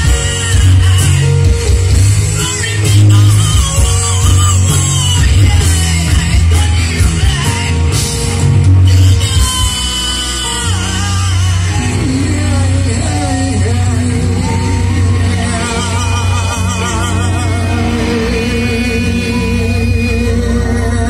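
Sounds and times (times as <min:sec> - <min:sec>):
electric guitar: 0:00.0 - 0:21.0
heavy low bass: 0:00.0 - 0:21.0
person singing: 0:00.0 - 0:21.0.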